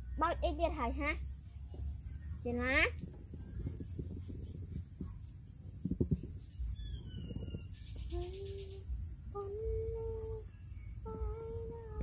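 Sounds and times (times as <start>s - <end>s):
birds chirping and trilling: 0.0s - 11.7s.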